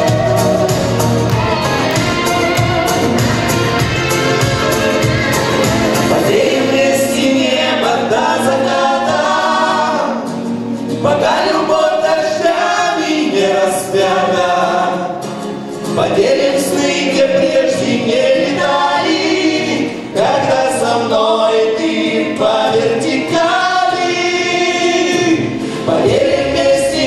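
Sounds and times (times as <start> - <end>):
man and woman singing duet: 0.0 - 15.2, 15.9 - 27.0
musical accompaniment: 0.0 - 27.0.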